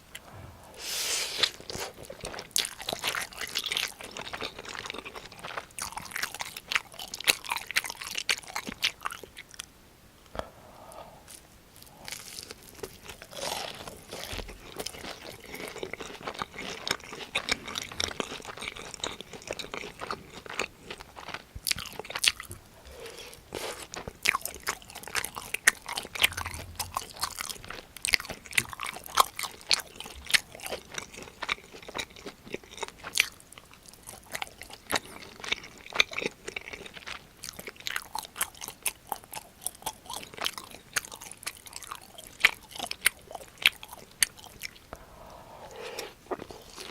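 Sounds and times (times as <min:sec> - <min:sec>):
crunchy chewing: 0:00.1 - 0:09.7, 0:10.3 - 0:46.9.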